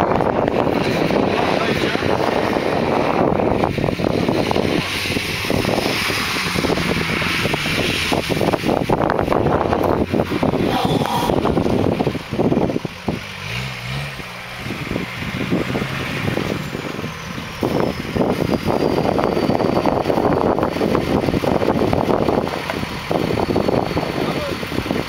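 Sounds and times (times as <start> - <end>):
off-road vehicle engine running: 0.0 - 25.0
wind buffeting microphone: 0.0 - 25.0.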